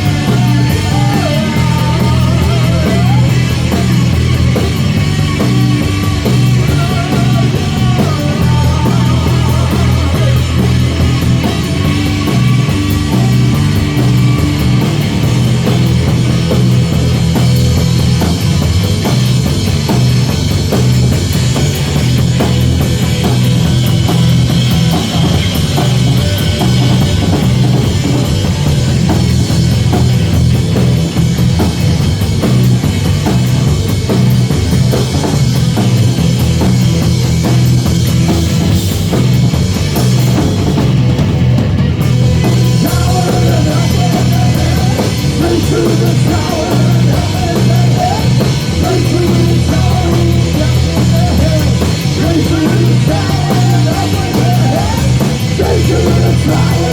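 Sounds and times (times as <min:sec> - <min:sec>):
drum kit: 0:00.0 - 0:56.9
heavy bass line: 0:00.0 - 0:56.9
live rock band playing: 0:00.0 - 0:56.9.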